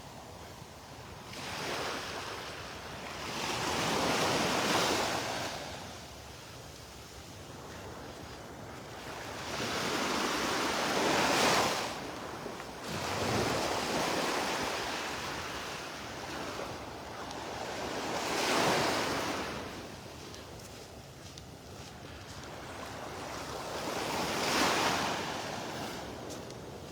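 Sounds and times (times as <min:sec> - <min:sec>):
waves breaking on sand: 0:01.3 - 0:06.0, 0:07.5 - 0:26.9.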